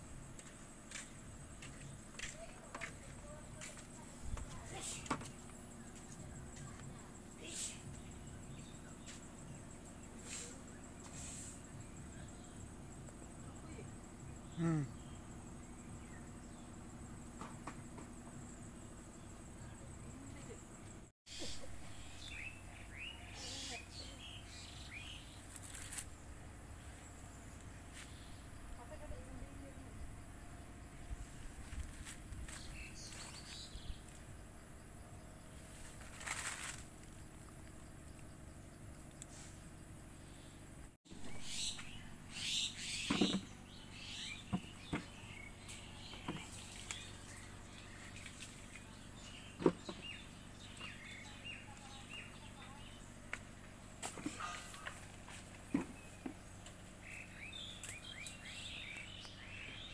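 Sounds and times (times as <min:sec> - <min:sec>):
birds chirping: 0:00.3 - 0:59.9.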